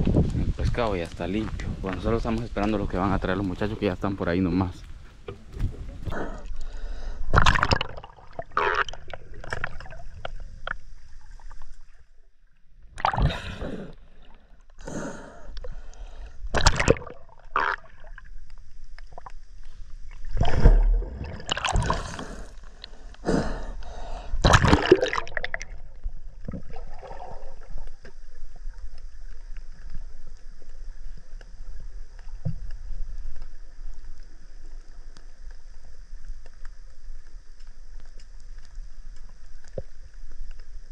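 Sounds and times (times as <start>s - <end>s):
muffled underwater hiss: 0.2s - 40.9s
water splashing and gurgling: 5.3s - 40.9s.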